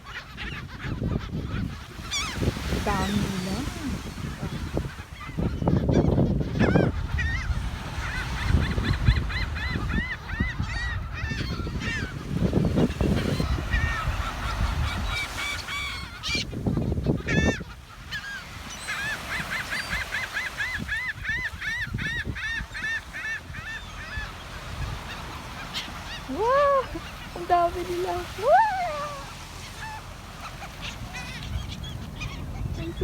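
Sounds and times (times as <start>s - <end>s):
seagulls calling: 0.0s - 33.0s.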